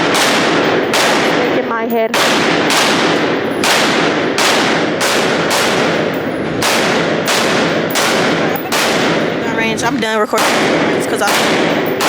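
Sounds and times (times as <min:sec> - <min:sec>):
echoing gunshots: 0:00.0 - 0:12.0.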